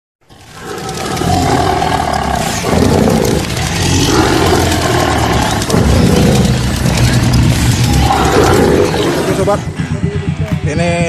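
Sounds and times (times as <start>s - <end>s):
tiger roaring: 0.3s - 9.8s.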